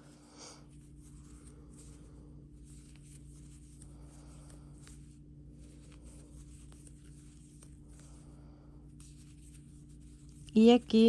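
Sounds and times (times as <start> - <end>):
steady low hum: 0.0 - 11.0
yarn rustling: 0.0 - 11.0.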